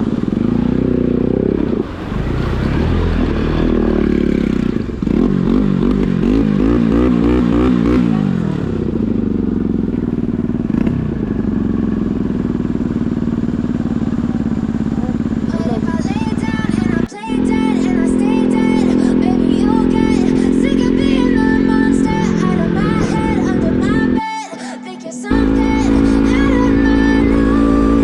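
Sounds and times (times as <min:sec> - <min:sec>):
motorcycle engine running: 0:00.0 - 0:24.2, 0:25.3 - 0:28.0.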